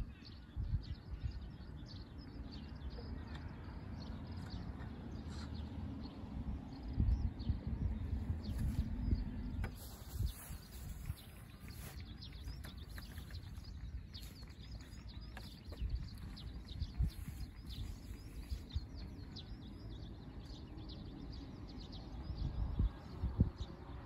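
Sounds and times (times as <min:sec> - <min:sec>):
small birds chirping: 0:00.0 - 0:24.0
low outdoor rumble: 0:02.6 - 0:24.0.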